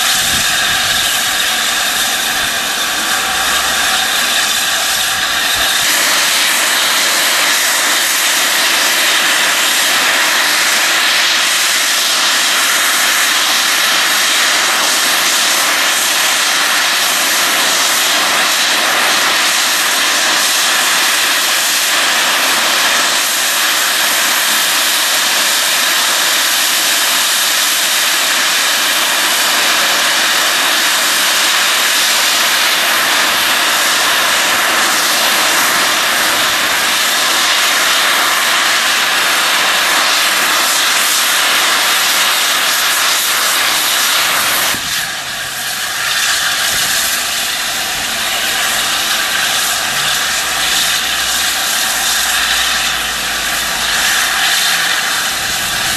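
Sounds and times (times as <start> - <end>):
safety valves blowing off steam: 0.0 - 55.9
steam hissing: 0.0 - 55.9.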